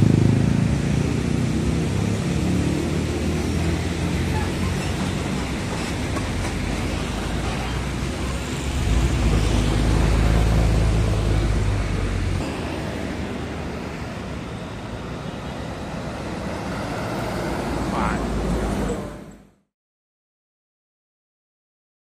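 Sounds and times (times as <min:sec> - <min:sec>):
diesel truck engine passing: 0:00.0 - 0:19.5
road traffic noise: 0:00.0 - 0:19.7.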